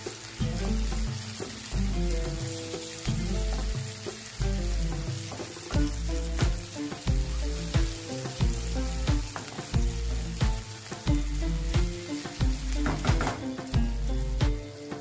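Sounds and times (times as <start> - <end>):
background music with beat: 0.0 - 15.0
vegetables sizzling in a pan: 0.0 - 15.0.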